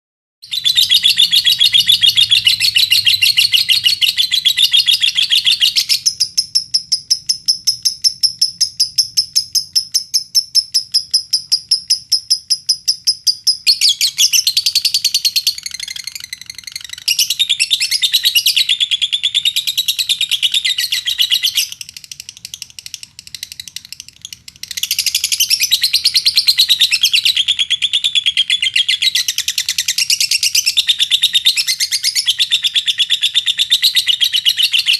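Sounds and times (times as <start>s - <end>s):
lovebird chattering and trilling: 0.5s - 34.9s.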